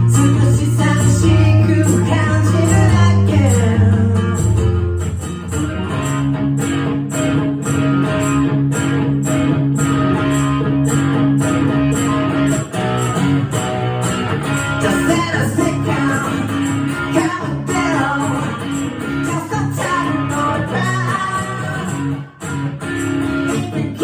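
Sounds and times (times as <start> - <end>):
guitar strummed: 0.0 - 24.0.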